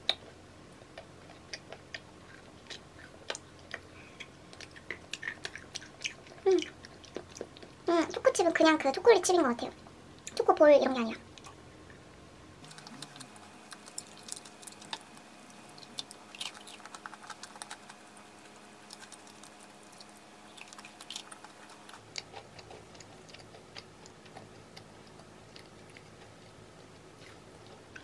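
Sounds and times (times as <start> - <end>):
chewing soft cake: 0.0 - 9.0, 9.6 - 28.0.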